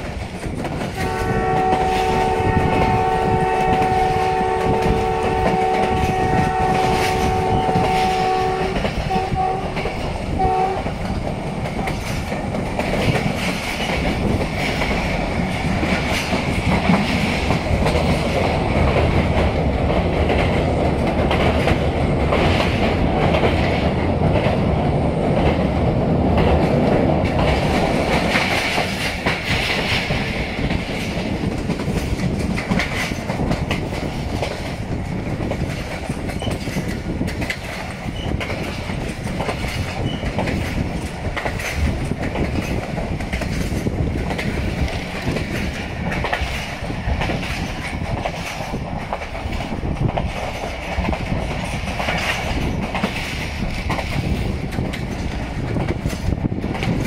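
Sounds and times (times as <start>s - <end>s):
train rumbling on track: 0.0s - 57.0s
wheels clattering over rails: 0.0s - 57.0s.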